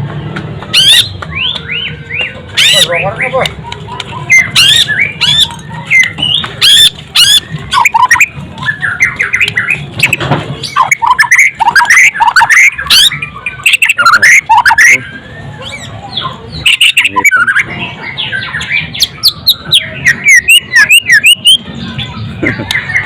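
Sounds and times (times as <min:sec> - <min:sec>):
songbird singing whistles and trills: 0:00.6 - 0:23.0.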